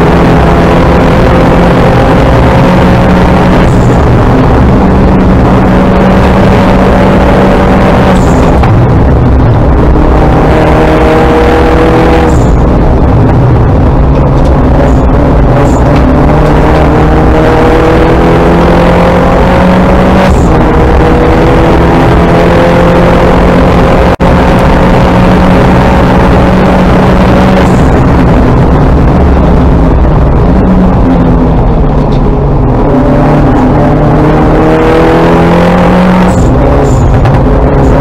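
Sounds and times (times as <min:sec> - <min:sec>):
race car engine accelerating: 0:00.0 - 0:38.0
road and wind roar: 0:00.0 - 0:38.0.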